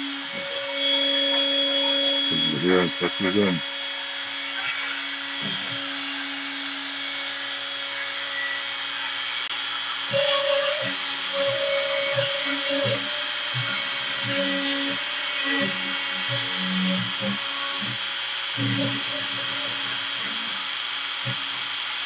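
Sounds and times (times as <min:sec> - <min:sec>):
router spindle carving wood: 0:00.0 - 0:22.0.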